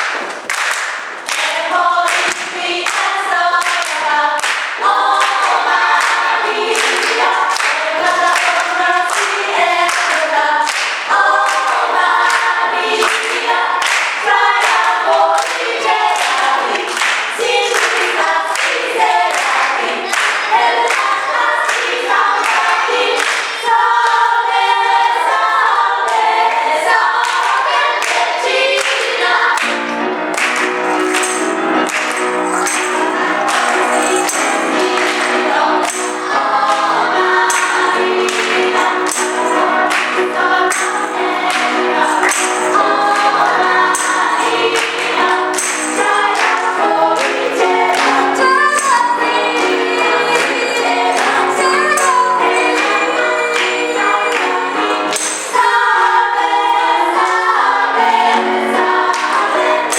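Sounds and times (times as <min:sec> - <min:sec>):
gospel choir singing: 0:00.0 - 0:59.9
rhythmic hand claps: 0:00.0 - 0:59.9.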